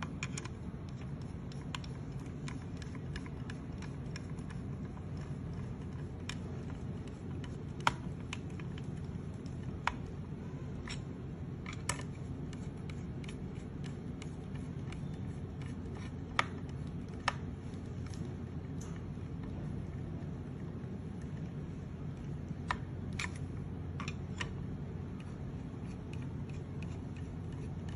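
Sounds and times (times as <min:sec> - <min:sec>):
low background noise: 0:00.0 - 0:27.9.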